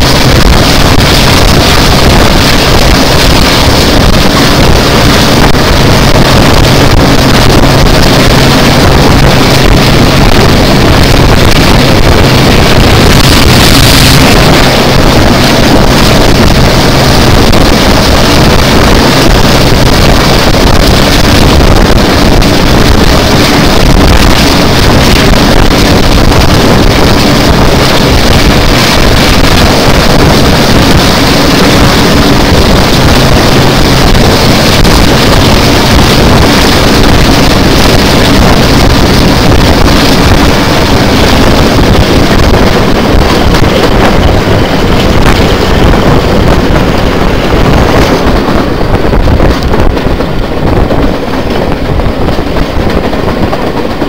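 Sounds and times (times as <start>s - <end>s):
diesel locomotive drone: 0.0s - 54.0s
wind buffeting microphone: 0.0s - 54.0s.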